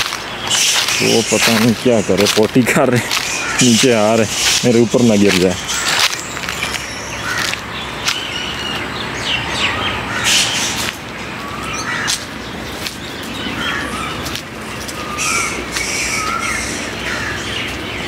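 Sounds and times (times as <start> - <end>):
birds chirping: 0.0 - 18.0
footsteps on dry leaves: 0.0 - 18.0.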